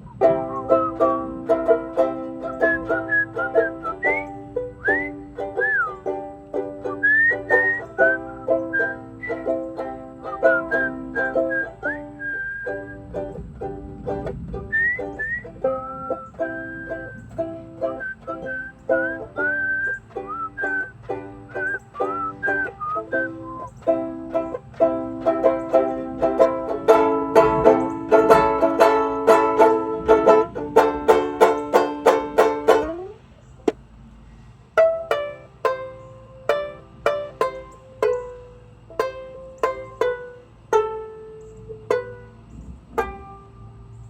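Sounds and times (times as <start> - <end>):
banjo-ukulele strummed chords: 0.0 - 33.2, 34.8 - 43.8
banjo-ukulele plucked notes: 0.0 - 33.8, 34.8 - 44.0.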